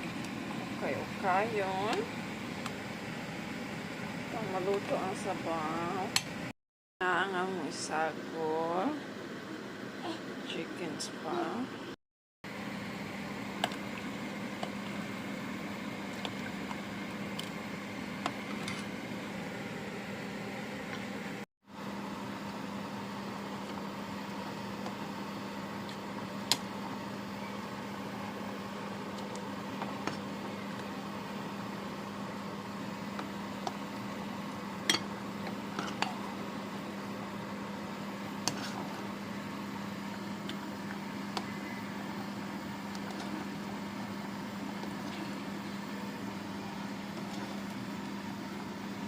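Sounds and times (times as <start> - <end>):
steady mechanical hum: 0.0 - 49.0.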